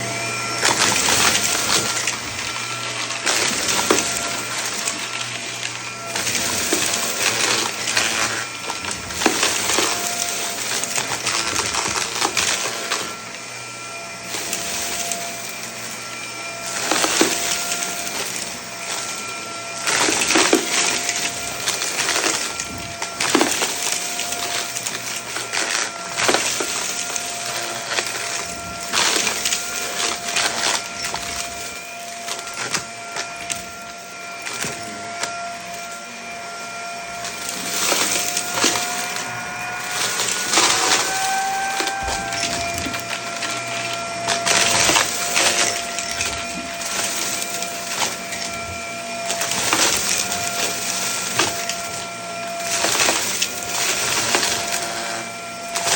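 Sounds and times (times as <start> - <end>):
vacuum cleaner motor whine: 0.0 - 55.9
debris crackling through nozzle: 0.3 - 55.9.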